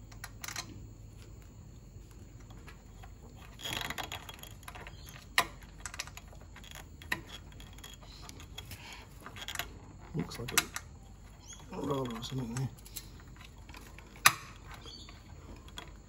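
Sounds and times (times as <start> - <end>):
metal clicks: 2.4 - 16.0
metal pulley scraping rattle: 2.4 - 16.0.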